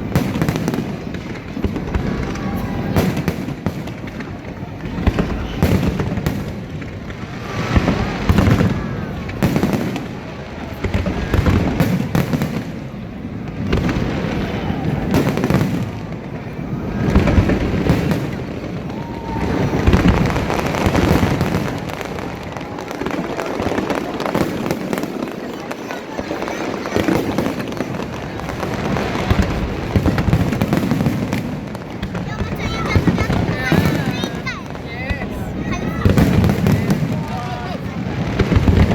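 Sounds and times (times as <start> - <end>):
fireworks bangs and booms: 0.0 - 38.9
fireworks crackling: 0.0 - 38.9.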